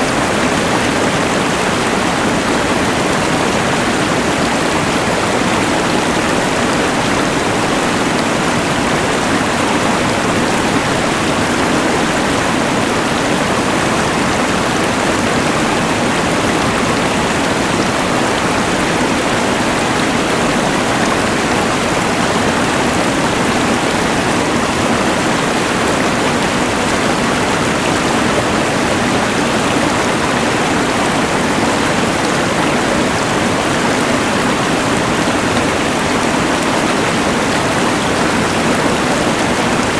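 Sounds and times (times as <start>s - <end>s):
rushing river: 0.0s - 39.9s.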